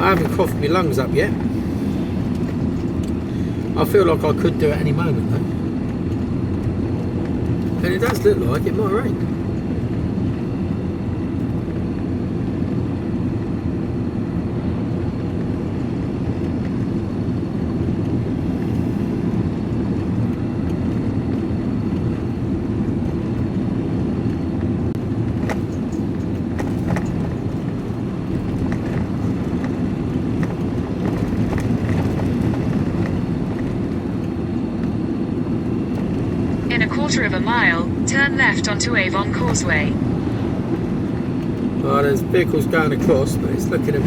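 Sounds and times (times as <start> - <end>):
road and engine noise in van: 0.0 - 44.0.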